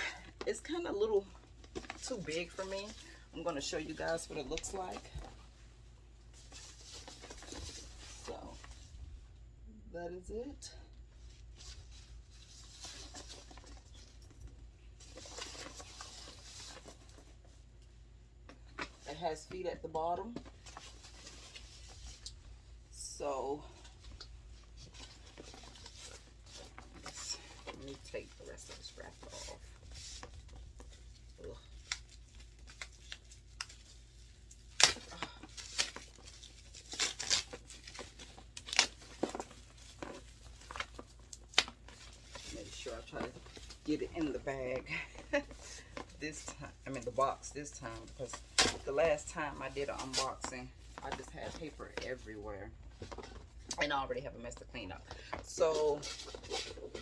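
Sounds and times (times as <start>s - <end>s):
rustling and crackling of packing: 0.0s - 9.3s, 11.0s - 57.0s.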